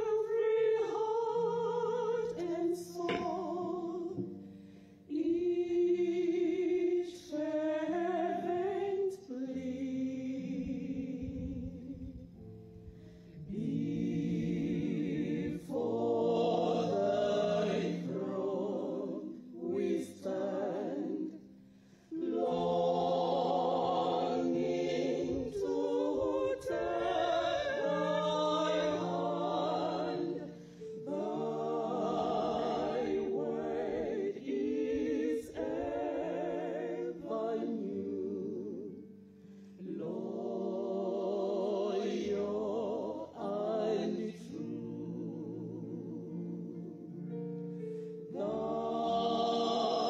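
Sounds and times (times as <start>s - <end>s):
women singing a hymn: 0.0s - 12.2s, 13.2s - 50.0s.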